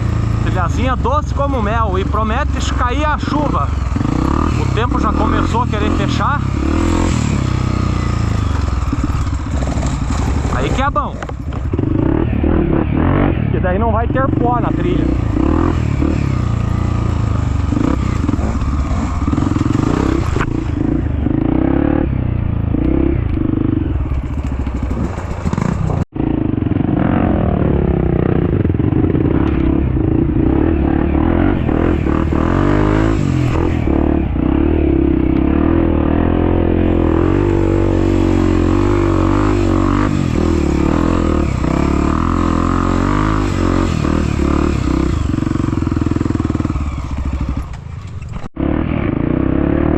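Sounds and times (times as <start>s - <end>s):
motorcycle engines revving: 0.0s - 49.9s.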